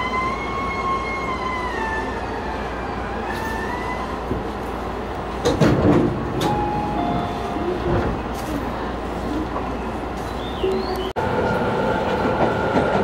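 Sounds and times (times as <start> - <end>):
train sliding doors closing: 0.0 - 13.0.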